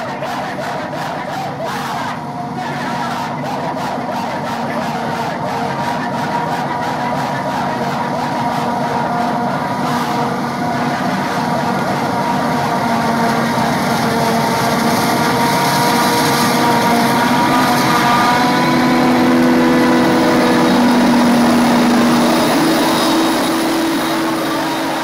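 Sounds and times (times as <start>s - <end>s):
forage harvester drone: 0.0s - 25.0s.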